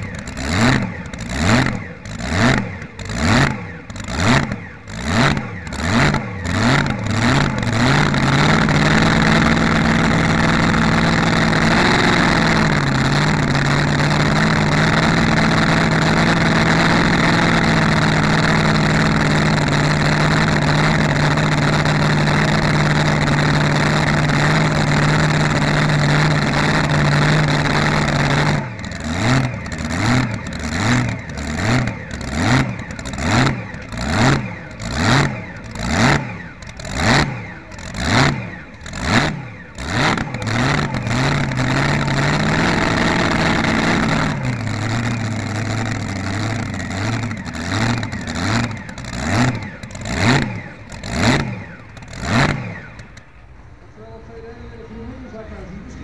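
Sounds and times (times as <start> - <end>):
engine idling and revving: 0.0 - 56.0.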